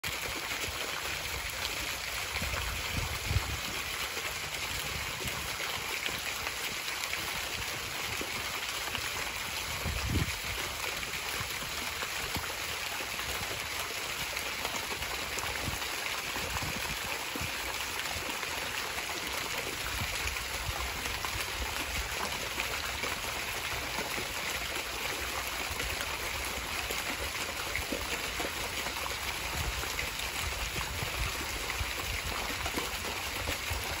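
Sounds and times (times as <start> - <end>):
fountain water splashing into pool: 0.0 - 34.0.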